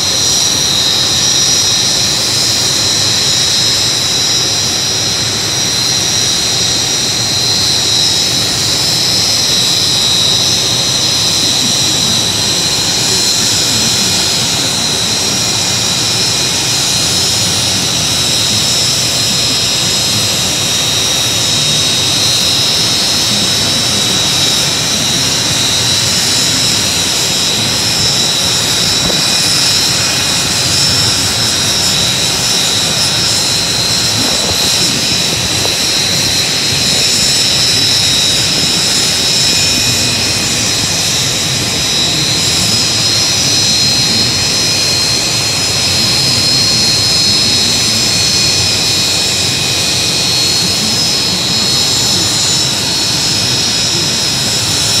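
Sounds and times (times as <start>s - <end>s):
turbine engine whine and roar: 0.0s - 55.0s.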